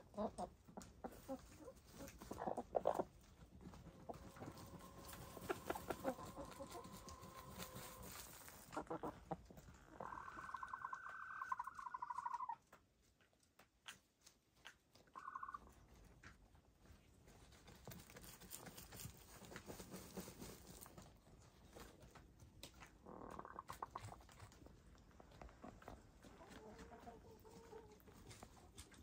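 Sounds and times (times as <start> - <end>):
scratching and patter of dirt: 0.0 - 29.0.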